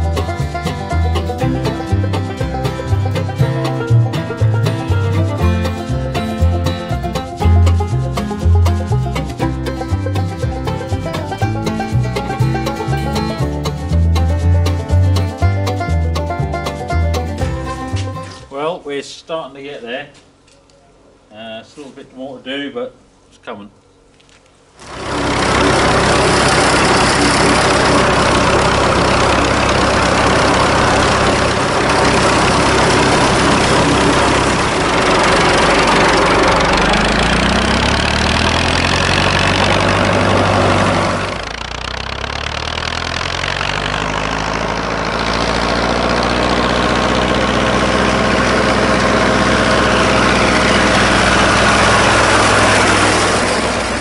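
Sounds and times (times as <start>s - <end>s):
tractor diesel engine revving: 0.0s - 18.4s, 24.8s - 54.0s.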